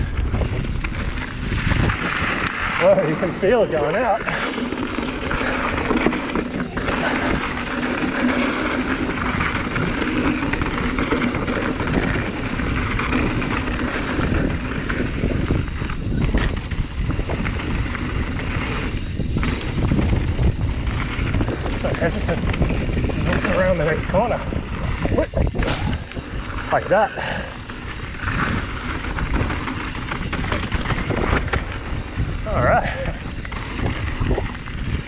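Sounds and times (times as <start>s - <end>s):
bike rattling over bumps: 0.0s - 35.0s
tyres rolling over loose ground: 0.0s - 35.0s
wind buffeting microphone: 0.0s - 35.0s.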